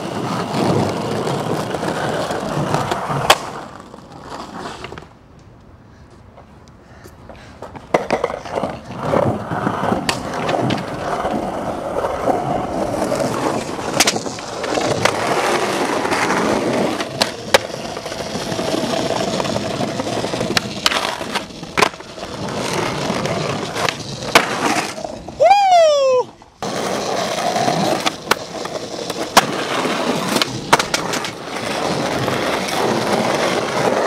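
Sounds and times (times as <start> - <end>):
skateboard wooden clacks: 0.0 - 5.5, 6.3 - 25.1, 26.6 - 34.0
skateboard wheels rolling on concrete: 0.0 - 34.0.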